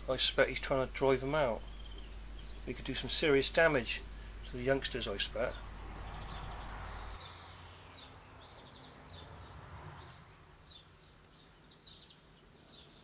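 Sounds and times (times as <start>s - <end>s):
small bird chirping: 0.4s - 13.0s.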